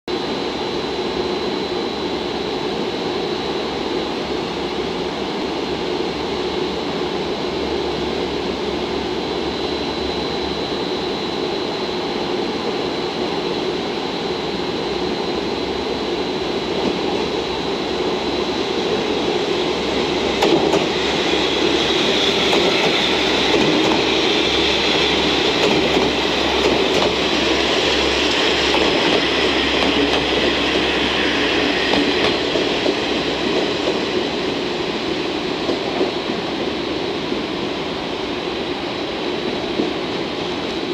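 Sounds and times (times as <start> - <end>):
diesel train passing: 0.1 - 40.9.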